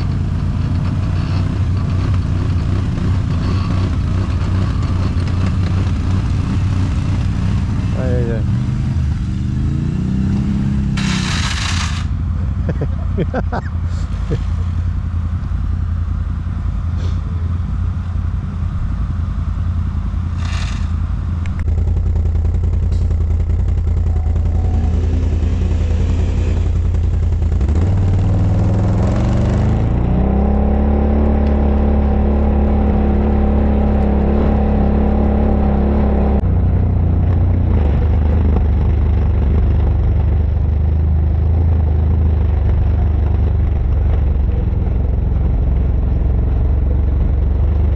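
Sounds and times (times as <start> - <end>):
atv engine running under load: 0.0 - 47.9.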